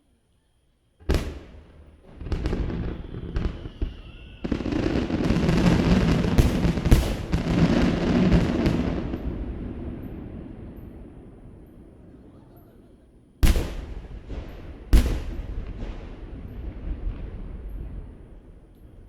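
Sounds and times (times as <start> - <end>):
fireworks bursting: 1.0 - 19.0.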